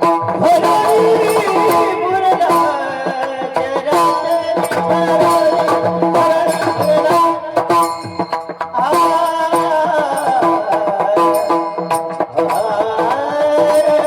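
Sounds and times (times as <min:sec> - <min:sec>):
hand drum beat: 0:00.0 - 0:14.0.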